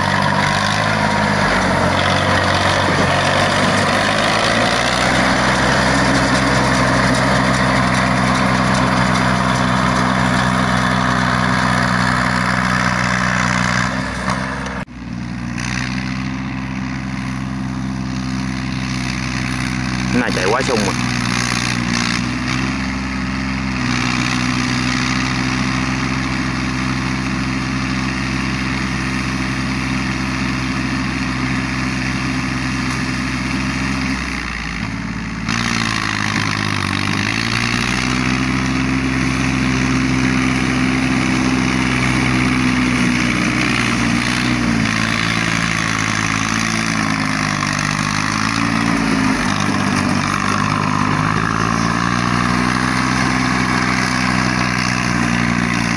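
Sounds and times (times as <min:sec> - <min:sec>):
diesel tractor engine under load: 0:00.0 - 0:55.9.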